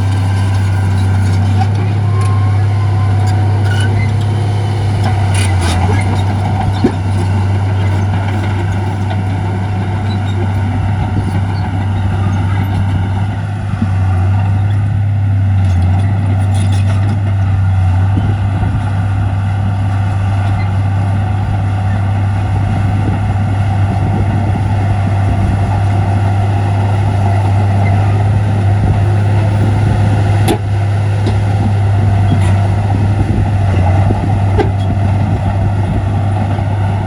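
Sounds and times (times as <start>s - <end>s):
diesel machinery engine drone: 0.0s - 37.0s.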